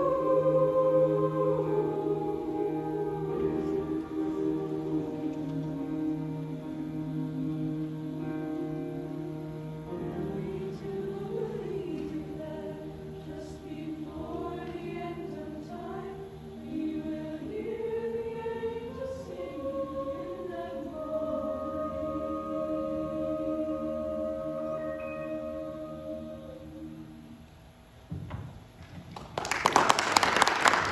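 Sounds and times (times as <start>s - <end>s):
youth choir singing: 0.0s - 27.4s.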